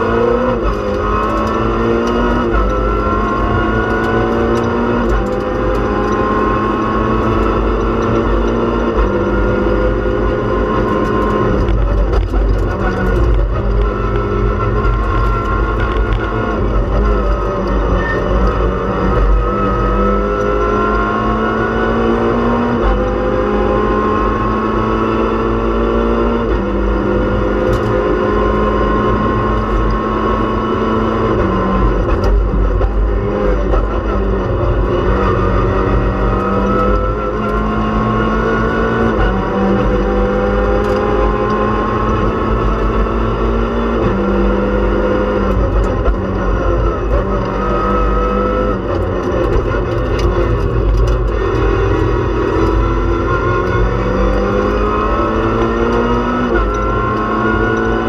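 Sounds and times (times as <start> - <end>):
car engine accelerating: 0.0 - 58.0
road and tyre rumble: 0.0 - 58.0.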